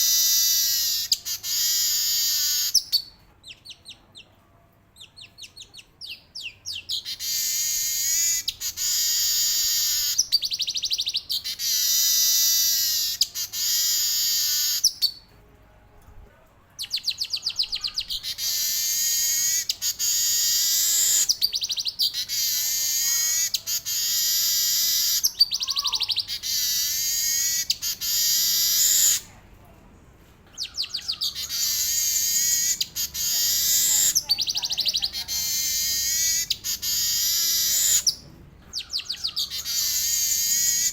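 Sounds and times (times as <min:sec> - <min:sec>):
weaver bird chattering trills: 0:00.0 - 0:04.0, 0:05.0 - 0:15.2, 0:16.8 - 0:29.3, 0:30.6 - 0:40.9.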